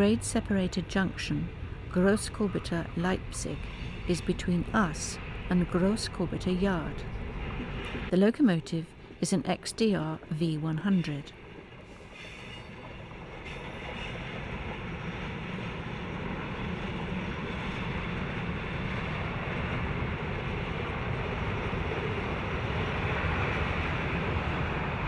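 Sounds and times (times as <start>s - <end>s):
diesel locomotive rumbling: 0.0s - 25.0s.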